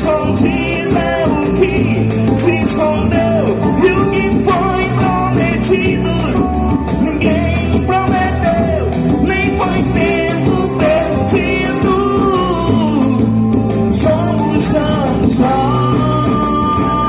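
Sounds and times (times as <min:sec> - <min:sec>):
band with bass and beat: 0:00.0 - 0:17.0
person singing: 0:00.0 - 0:17.0.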